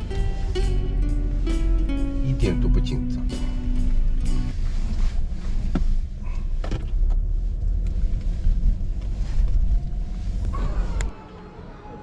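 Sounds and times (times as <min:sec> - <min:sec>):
car engine rumble: 0:00.0 - 0:11.2.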